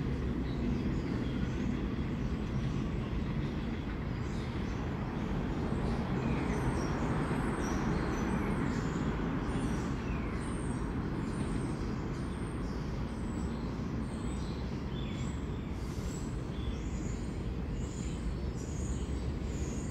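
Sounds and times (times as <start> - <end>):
low subway train rumble: 0.0 - 19.9
small birds chirping: 0.0 - 19.9.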